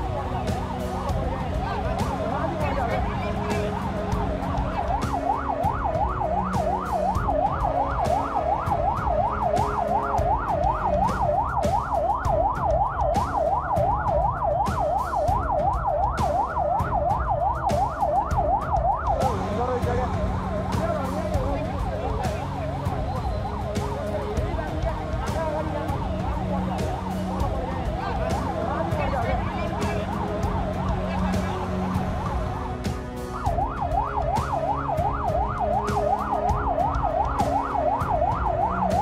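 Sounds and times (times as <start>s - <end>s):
siren yelping: 0.0s - 39.0s.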